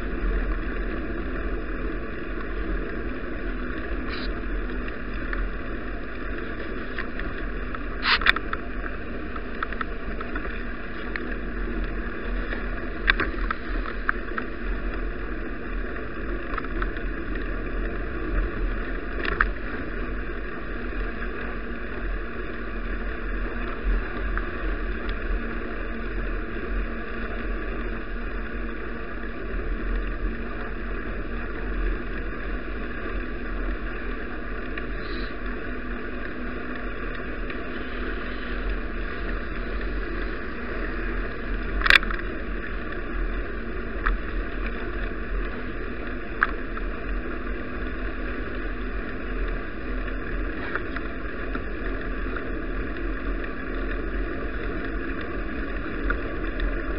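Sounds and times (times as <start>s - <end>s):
bicycle wind and road noise: 0.0s - 56.9s.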